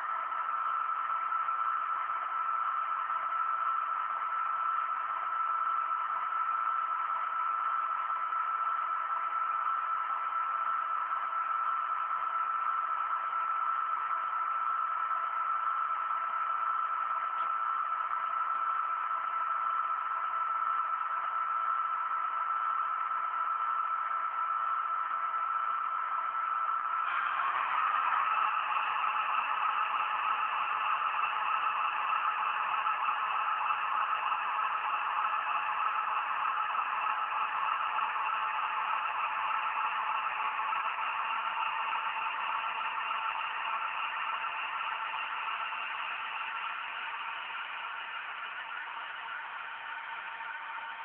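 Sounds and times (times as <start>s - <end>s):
model locomotive engine sound: 0.0s - 51.0s.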